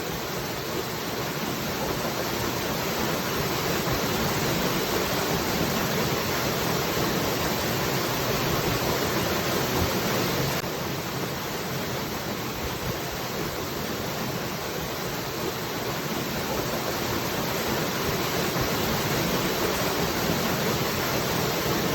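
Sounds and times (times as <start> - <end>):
water falling steadily: 0.0 - 21.9.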